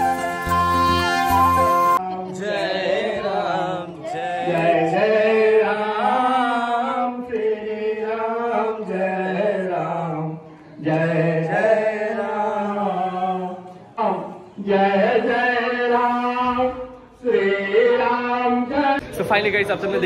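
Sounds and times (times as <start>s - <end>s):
man singing through loudspeakers: 0.0s - 20.0s.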